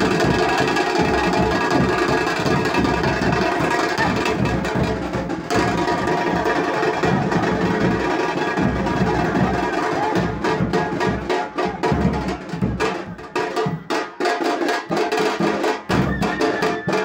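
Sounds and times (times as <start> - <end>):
drums beating fast rhythm: 0.0 - 17.0.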